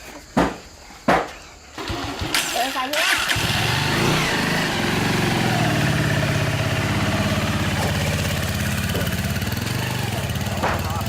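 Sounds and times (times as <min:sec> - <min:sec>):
small motorcycle engine idling: 0:01.7 - 0:11.0.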